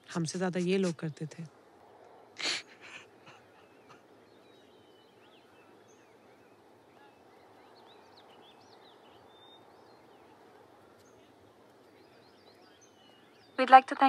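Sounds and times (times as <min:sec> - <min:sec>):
low steady hiss: 0:00.0 - 0:14.0
faint bird chirps: 0:02.4 - 0:14.0.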